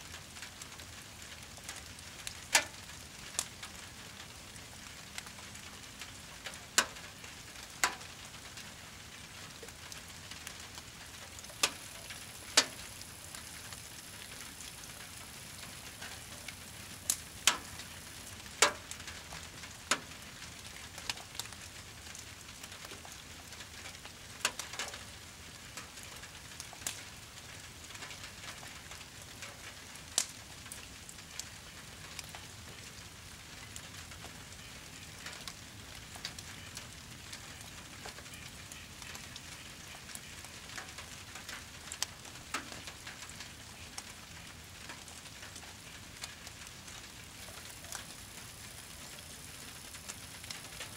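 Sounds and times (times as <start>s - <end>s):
fire crackling and popping: 0.1s - 50.9s
rain hissing: 0.1s - 50.9s.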